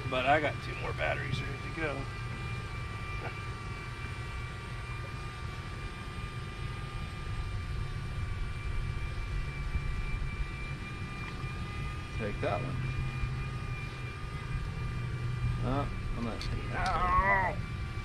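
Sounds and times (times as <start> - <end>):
drone propellers hovering: 0.0 - 18.0.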